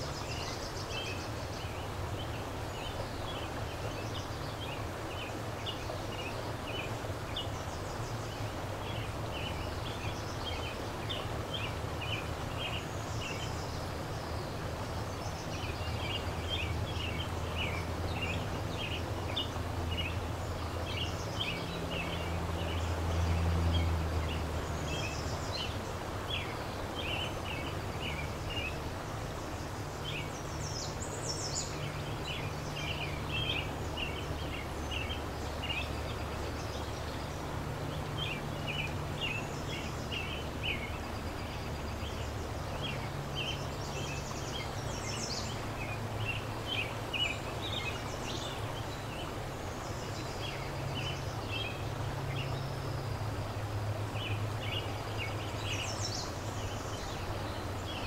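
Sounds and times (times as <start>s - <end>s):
river flowing: 0.0s - 58.0s
small birds chirping: 0.0s - 58.0s.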